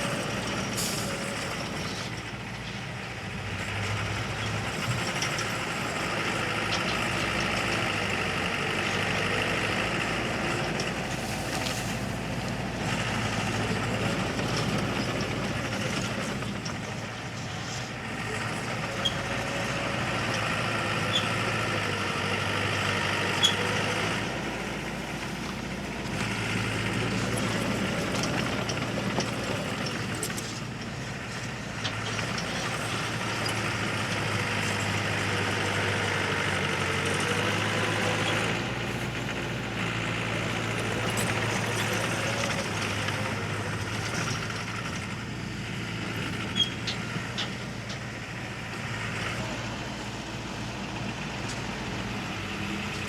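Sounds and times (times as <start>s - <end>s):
diesel engine working: 0.0s - 53.0s.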